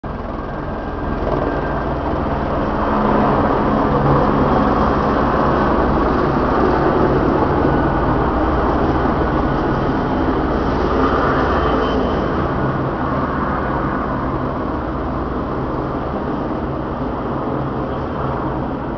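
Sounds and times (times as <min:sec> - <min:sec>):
helicopter rotor and engine: 0:00.0 - 0:18.9.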